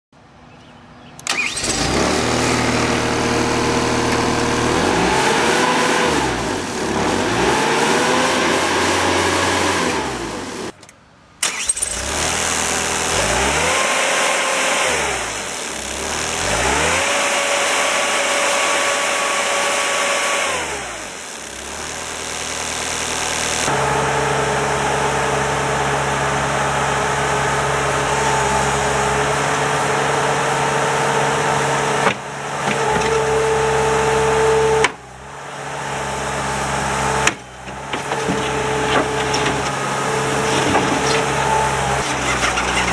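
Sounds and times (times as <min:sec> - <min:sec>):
diesel engine starting: 0:00.9 - 0:10.8, 0:11.4 - 0:42.9
diesel engine revving and idling: 0:01.1 - 0:10.8, 0:11.4 - 0:42.9.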